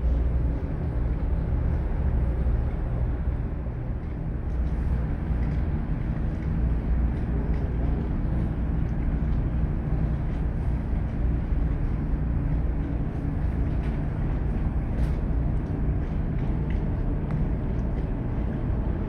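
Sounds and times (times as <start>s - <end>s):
ship engine rumble: 0.0s - 19.0s.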